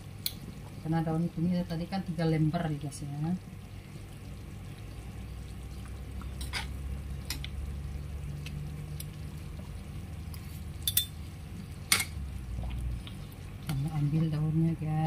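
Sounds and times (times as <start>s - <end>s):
gravy simmering and bubbling: 0.0s - 15.0s.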